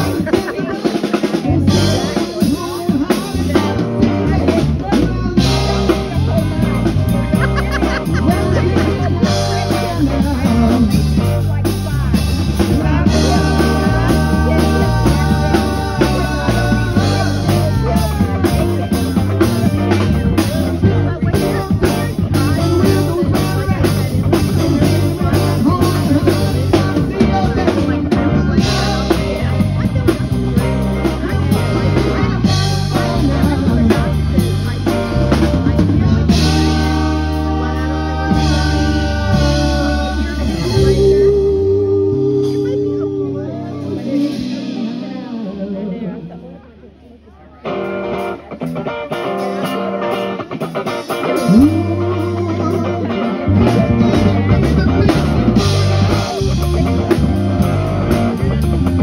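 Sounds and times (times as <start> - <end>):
drum kit beat: 0.0 - 45.6, 47.7 - 59.0
electric guitar: 0.0 - 46.6, 47.5 - 59.0
keyboard: 0.0 - 59.0.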